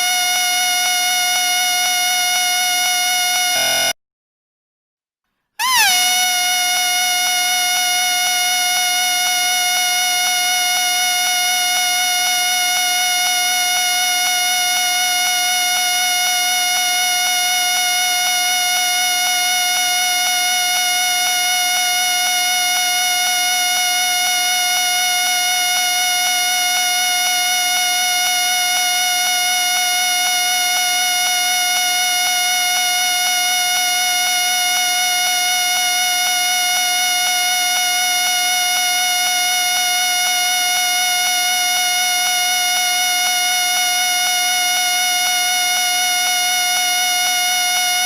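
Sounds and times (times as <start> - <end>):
whistle blown in a long note: 0.0 - 4.0, 5.6 - 48.0.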